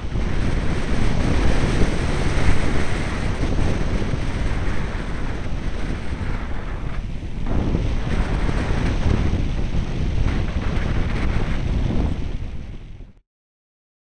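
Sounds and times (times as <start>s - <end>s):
airflow buffeting microphone: 0.0s - 13.2s.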